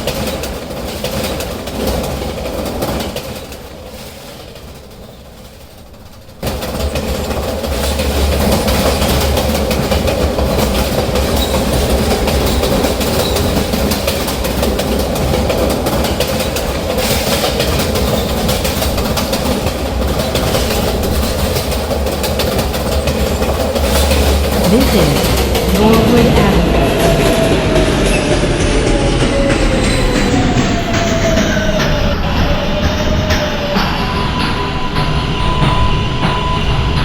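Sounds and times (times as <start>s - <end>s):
subway train rumble: 0.0s - 37.0s
wheel clatter on rails: 0.0s - 37.0s.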